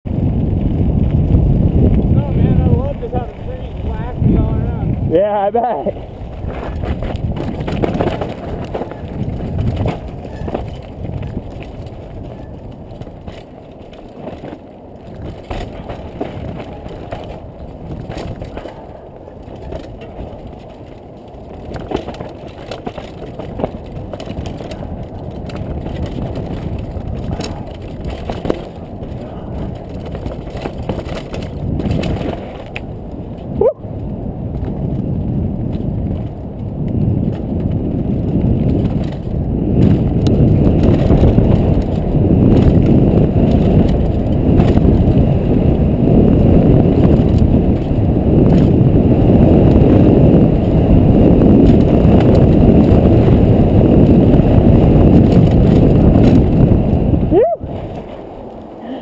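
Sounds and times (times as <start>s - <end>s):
bike rattling over bumps: 0.0s - 59.0s
tyres crunching over dirt and rock: 0.1s - 59.0s.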